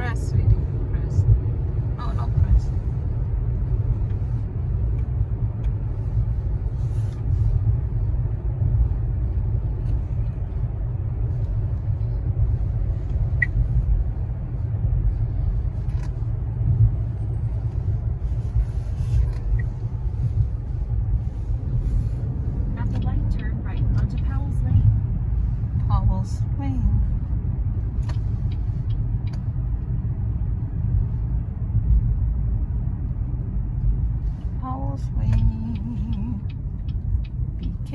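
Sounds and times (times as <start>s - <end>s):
car driving low rumble: 0.0s - 37.9s.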